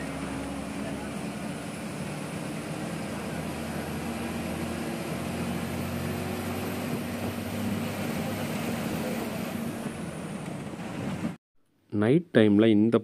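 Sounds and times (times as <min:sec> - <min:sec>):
bus diesel engine droning: 0:00.0 - 0:11.4
road and tyre noise: 0:00.0 - 0:11.4.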